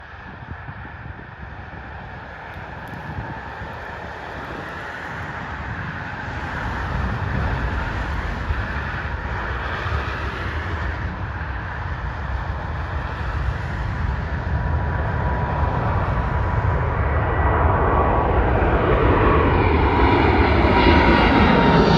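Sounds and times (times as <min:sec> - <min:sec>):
jet engines roaring at takeoff: 0:00.0 - 0:21.9.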